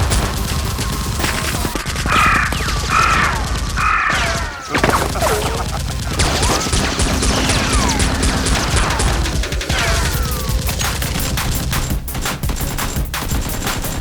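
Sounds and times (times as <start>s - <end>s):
rapid gunfire: 0.0s - 14.0s.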